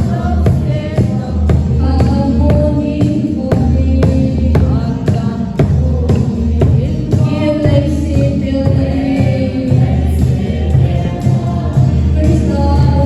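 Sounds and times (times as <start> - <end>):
choir singing gospel song: 0.0 - 13.0
music with strong bass: 0.0 - 13.0.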